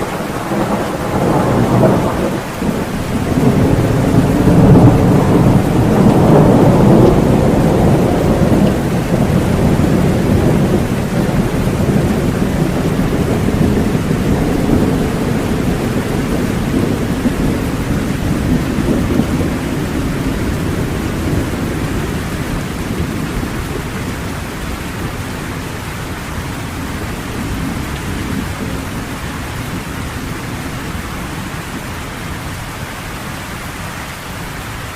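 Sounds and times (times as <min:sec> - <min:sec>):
rolling thunder rumble: 0:00.0 - 0:32.9
rain: 0:00.0 - 0:34.9.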